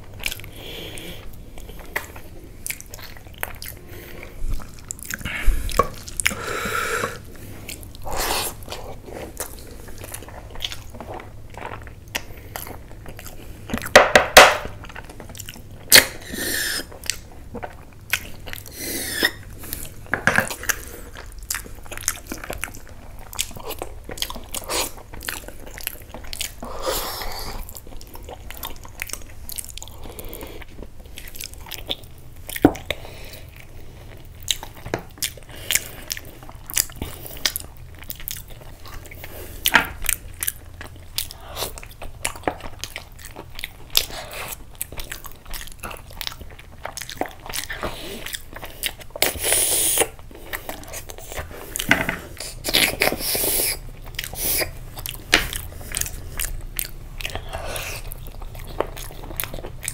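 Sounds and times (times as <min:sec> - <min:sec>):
chewing and biting food: 0:00.0 - 0:59.9.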